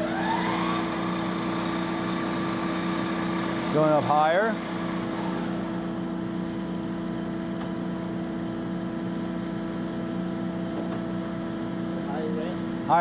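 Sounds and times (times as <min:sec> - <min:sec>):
lathe drive humming: 0:00.0 - 0:12.9.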